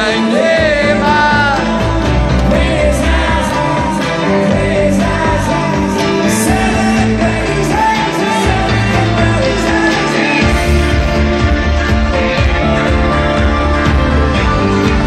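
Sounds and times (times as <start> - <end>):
live rock band with vocals: 0.0 - 15.0.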